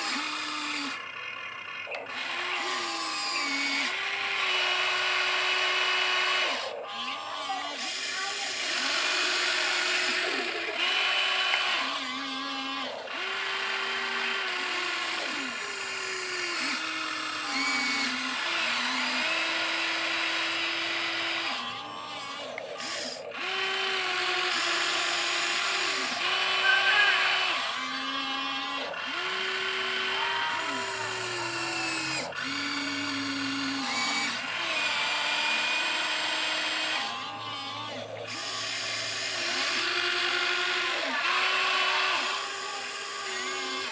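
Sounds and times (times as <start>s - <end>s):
electric gear motors whining: 0.0s - 43.9s.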